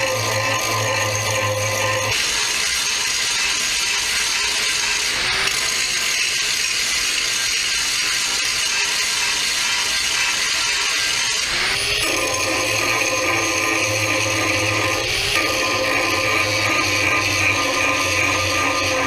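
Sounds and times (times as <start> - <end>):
angle grinder grinding steel: 0.0 - 19.0.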